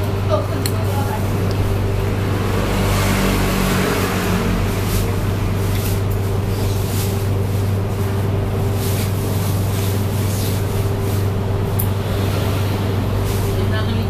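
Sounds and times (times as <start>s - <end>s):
traffic engine hum: 0.0s - 14.0s.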